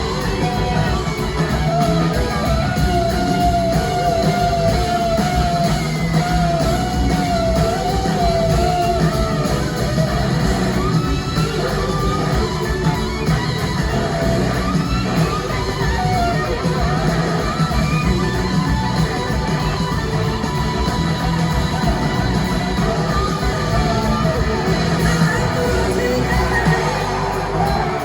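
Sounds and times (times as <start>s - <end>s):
electric guitar gliding notes: 0.0s - 28.0s
live rock band playing: 0.0s - 28.0s.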